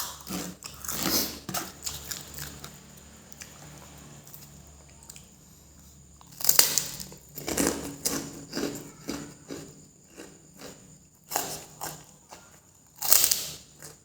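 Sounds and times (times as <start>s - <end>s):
crackers crunching when bitten: 0.0s - 3.5s, 6.2s - 14.0s
chewing crunches: 0.0s - 14.0s.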